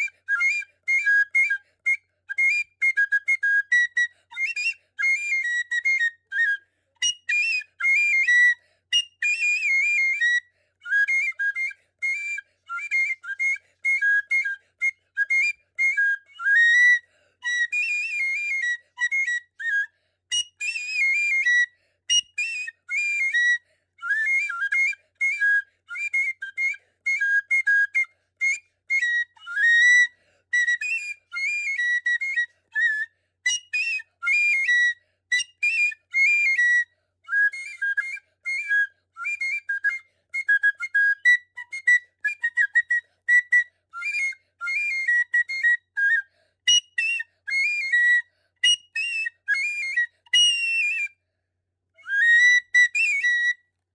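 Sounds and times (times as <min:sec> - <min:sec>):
high-pitched flute tune: 0:00.0 - 0:51.1, 0:52.0 - 0:53.6.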